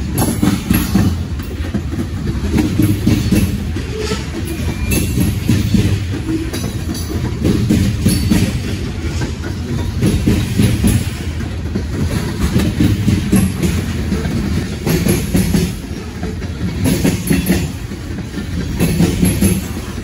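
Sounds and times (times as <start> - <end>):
train wheels rumbling on rails: 0.0 - 20.0
wheels clacking over rail joints: 0.0 - 20.0.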